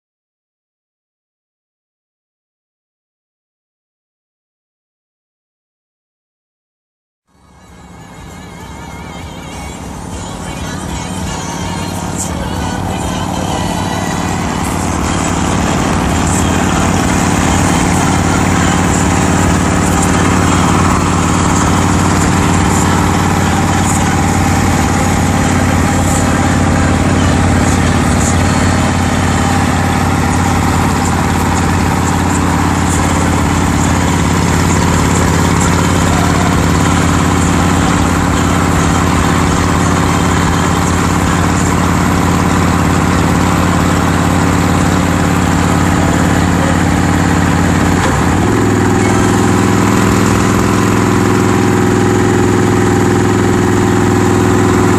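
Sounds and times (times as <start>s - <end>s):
car engine drone: 7.3s - 54.9s
motorcycle running alongside: 7.3s - 54.9s.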